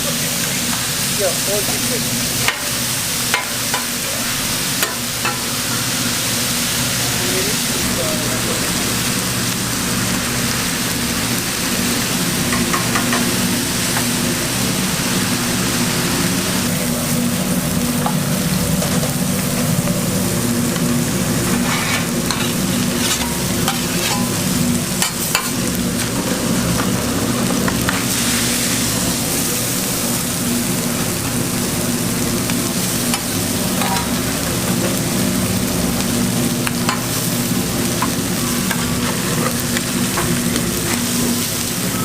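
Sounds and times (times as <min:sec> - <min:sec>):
food sizzling on a griddle: 0:00.0 - 0:42.0.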